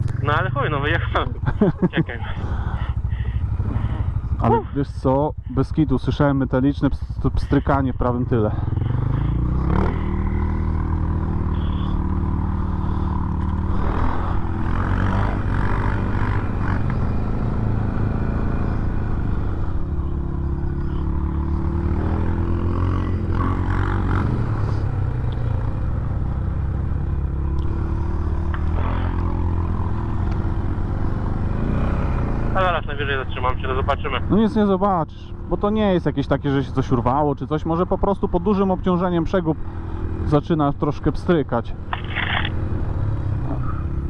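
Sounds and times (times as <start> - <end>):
quad bike engine running: 0.0 - 40.6, 41.7 - 44.0.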